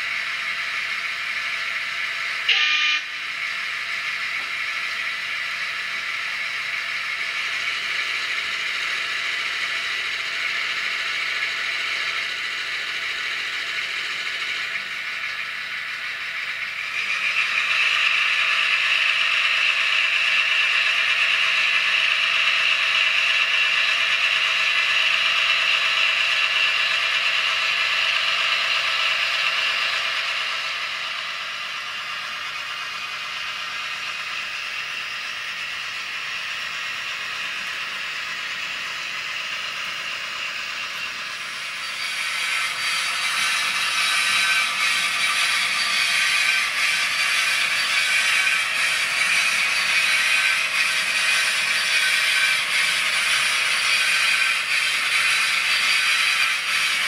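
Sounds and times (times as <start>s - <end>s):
model locomotive running: 0.0s - 57.0s.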